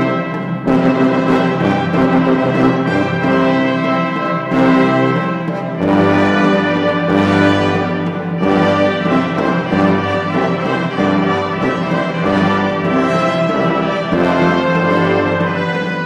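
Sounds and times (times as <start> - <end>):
orchestral brass chords: 0.0 - 16.0.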